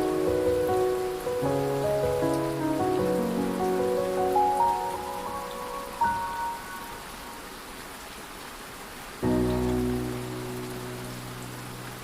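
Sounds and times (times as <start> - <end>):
low piano chord: 0.0 - 7.5, 9.2 - 12.0
steady rain: 0.0 - 12.0.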